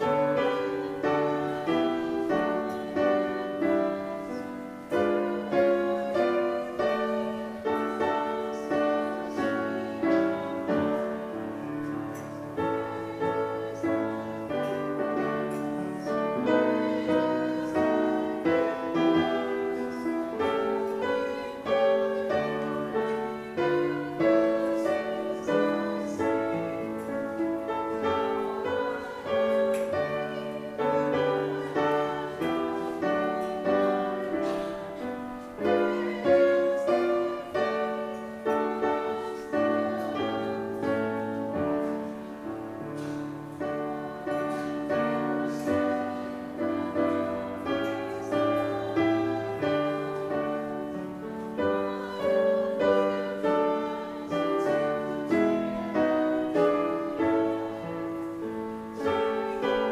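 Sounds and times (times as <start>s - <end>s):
slow piano chords: 0.0s - 59.9s.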